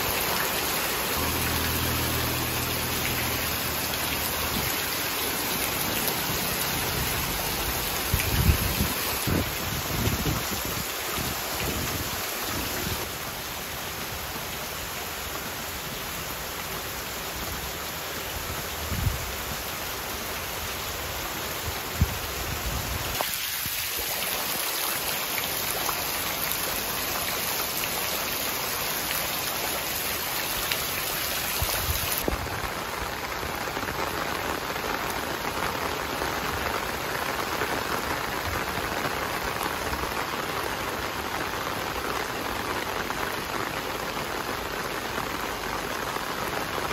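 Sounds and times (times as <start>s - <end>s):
heavy rain on water: 0.0s - 46.9s.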